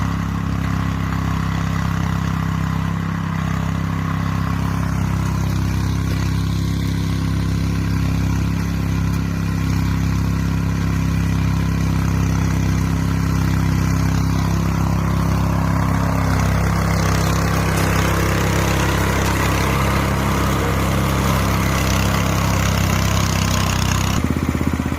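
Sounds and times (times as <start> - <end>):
mower engine running: 0.0 - 24.9.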